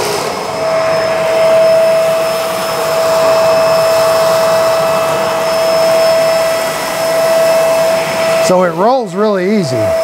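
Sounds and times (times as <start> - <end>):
vacuum cleaner motor whine: 0.0 - 10.0.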